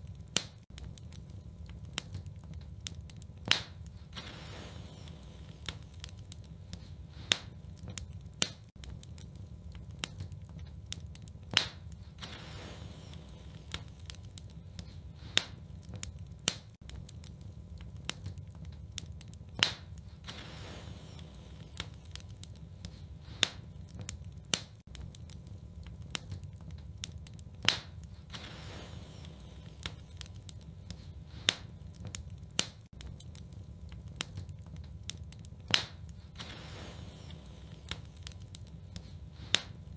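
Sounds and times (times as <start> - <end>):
low fire rumble: 0.0 - 39.9
sharp fire pops: 0.0 - 39.9
wood fire crackling: 0.0 - 39.9.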